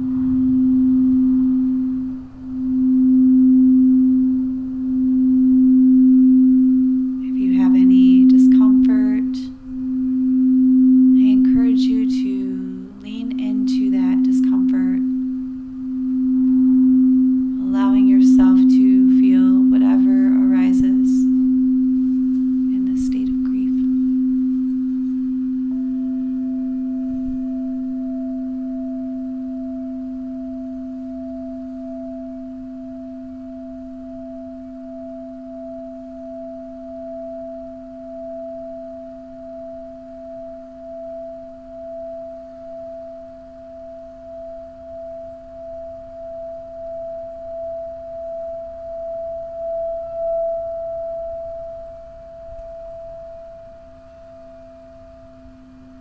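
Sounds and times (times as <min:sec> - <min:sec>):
singing bowls ringing: 0:00.0 - 0:56.0.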